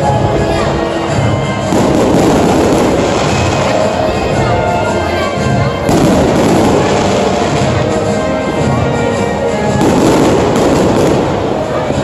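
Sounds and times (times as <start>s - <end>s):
fireworks bursting and crackling: 0.0s - 12.0s
music playing: 0.0s - 12.0s.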